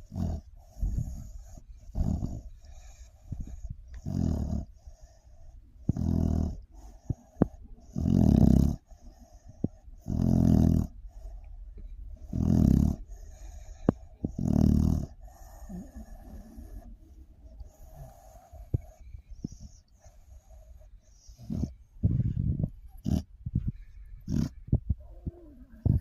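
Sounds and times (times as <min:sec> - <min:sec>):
dog snoring: 0:00.0 - 0:11.5, 0:12.2 - 0:23.3, 0:24.2 - 0:26.0.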